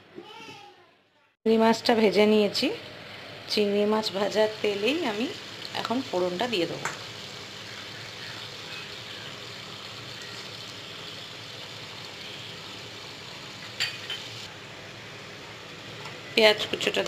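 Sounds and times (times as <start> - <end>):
oil sizzling in a pan: 1.6 - 17.0.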